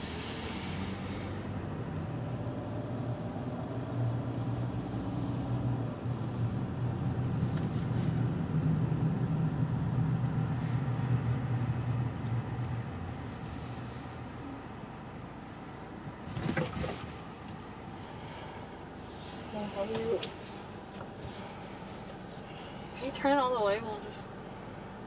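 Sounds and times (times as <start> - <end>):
car engine and tyre hum: 0.0 - 25.0.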